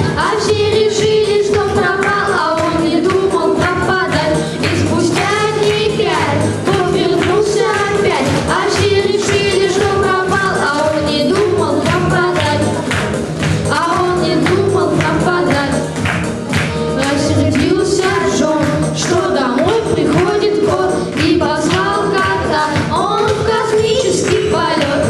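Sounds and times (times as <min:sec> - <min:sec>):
backing track with steady beat: 0:00.0 - 0:25.0
children singing: 0:00.0 - 0:25.0.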